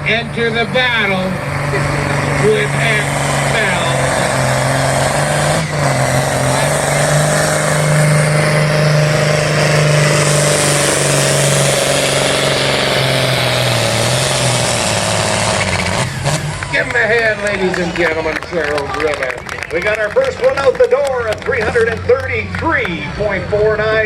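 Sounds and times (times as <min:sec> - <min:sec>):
tractor engine running flat out: 0:00.0 - 0:24.0.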